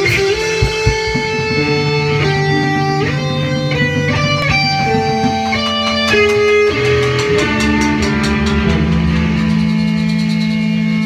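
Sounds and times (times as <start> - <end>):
rock band jamming: 0.0 - 11.0.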